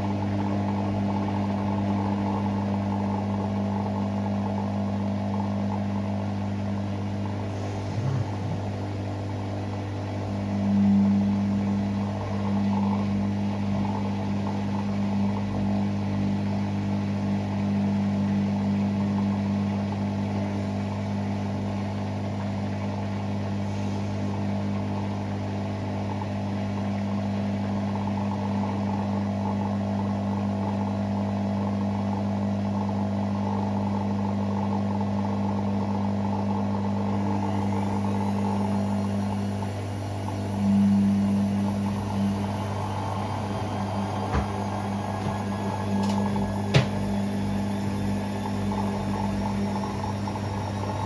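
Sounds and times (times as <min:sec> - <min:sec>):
washing machine humming: 0:00.0 - 0:51.0.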